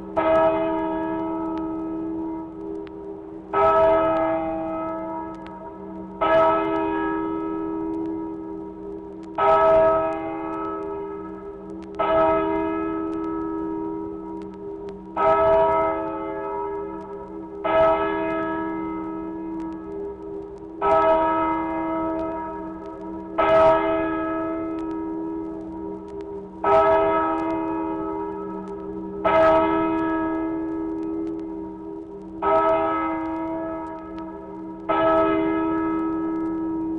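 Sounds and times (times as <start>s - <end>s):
church bells struck slowly: 0.0s - 36.9s.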